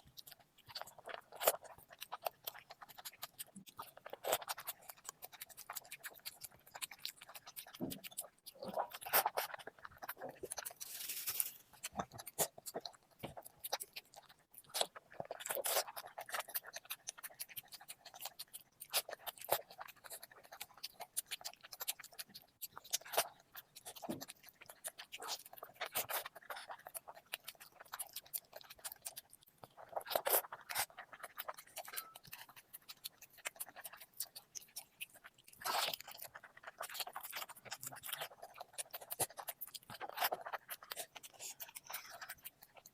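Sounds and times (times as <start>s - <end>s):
person chewing and lip-smacking: 0.0s - 42.9s.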